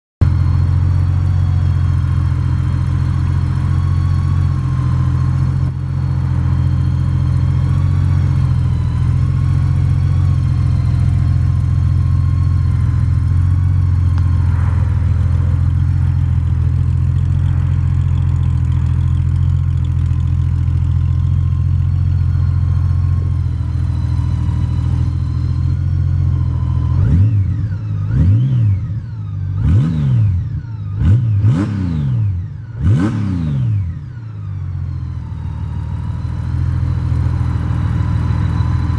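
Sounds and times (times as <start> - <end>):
motorcycle engine idling and revving: 0.2 - 38.9.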